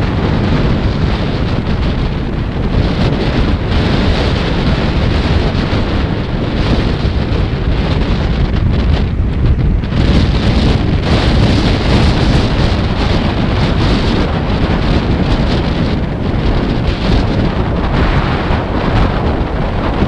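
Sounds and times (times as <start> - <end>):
gusty wind buffeting microphone: 0.0 - 20.0
heavy sea waves: 0.0 - 20.0.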